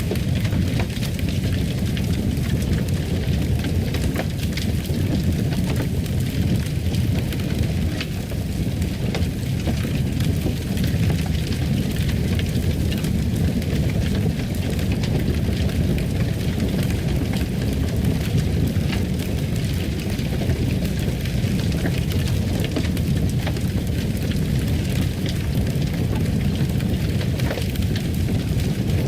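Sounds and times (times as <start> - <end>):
fireplace fire crackling: 0.0 - 29.0.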